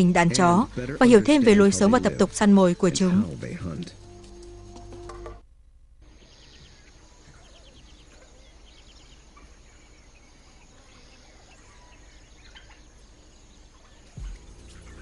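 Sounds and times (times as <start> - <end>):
birds trilling chirps: 0.0 - 4.7, 6.0 - 15.0
high insect drone: 0.0 - 5.3, 6.0 - 15.0.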